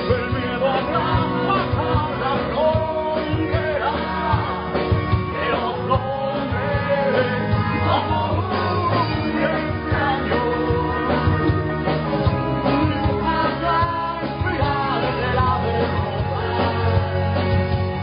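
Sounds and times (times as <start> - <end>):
drum kit: 0.0 - 18.0
electric guitars: 0.0 - 18.0.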